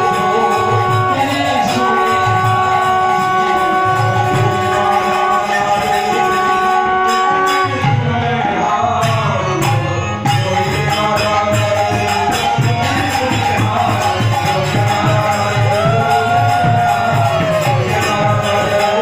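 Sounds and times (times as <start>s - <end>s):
drum steady beat: 0.0s - 8.4s, 9.0s - 19.0s
person singing: 0.0s - 19.0s.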